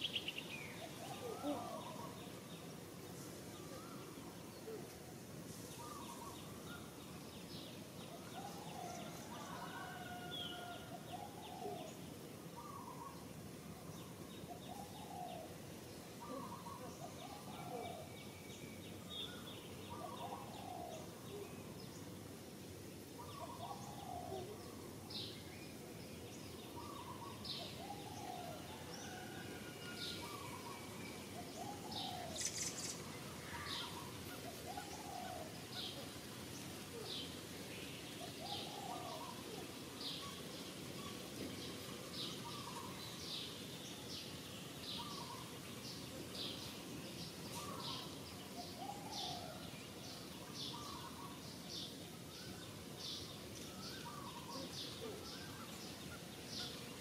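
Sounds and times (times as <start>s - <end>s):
birds chirping high: 0.0s - 57.0s
steady background hiss: 0.0s - 57.0s.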